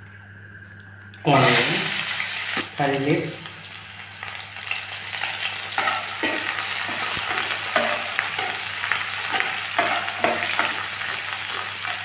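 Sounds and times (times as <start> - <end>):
vegetables sizzling in hot oil: 1.3 - 12.0.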